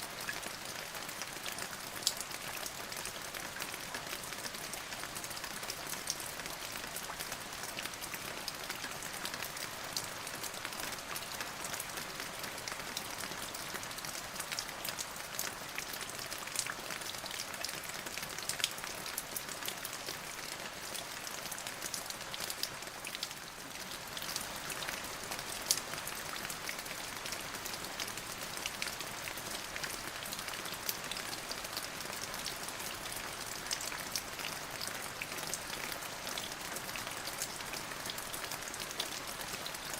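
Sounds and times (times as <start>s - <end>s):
raindrops pattering and ticking: 0.0s - 39.9s
steady rain falling: 0.0s - 39.9s.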